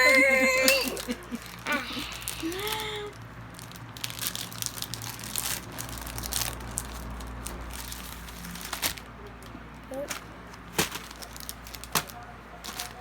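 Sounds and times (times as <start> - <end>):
plastic wrapper crinkling: 2.2 - 13.0.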